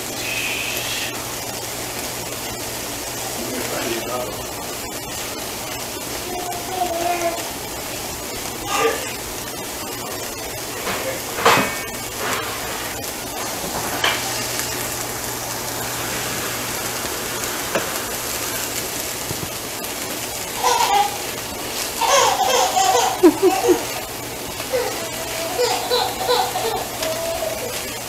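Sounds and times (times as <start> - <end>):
onions sizzling in oil: 0.0 - 28.0
voices: 3.2 - 5.0, 5.7 - 28.0.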